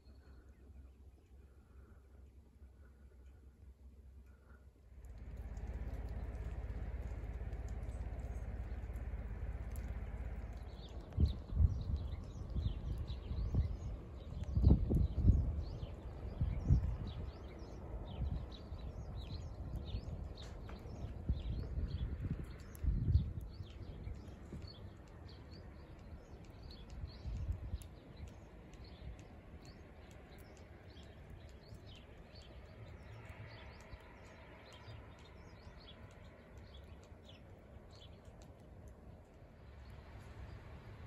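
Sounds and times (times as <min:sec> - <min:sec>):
low rumbles: 0:04.3 - 0:41.0
small birds chirping: 0:05.0 - 0:41.0.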